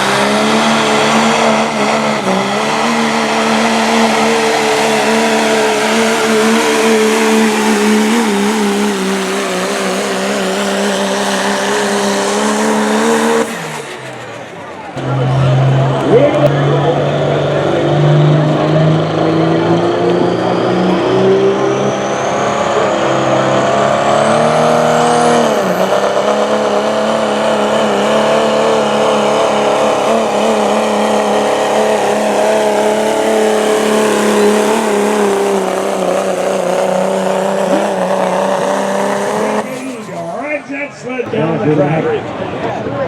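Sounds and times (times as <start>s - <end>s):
diesel truck engine at full throttle: 0.0s - 43.0s.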